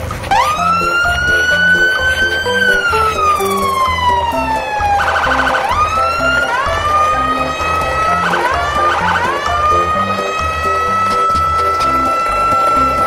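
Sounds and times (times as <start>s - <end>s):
background music with bass: 0.0s - 13.0s
siren wailing: 0.3s - 13.0s.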